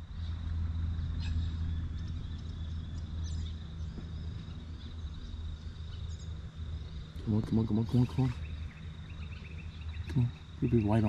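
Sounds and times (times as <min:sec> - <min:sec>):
high insect drone: 0:00.0 - 0:11.0
steady low rumble: 0:00.0 - 0:11.0.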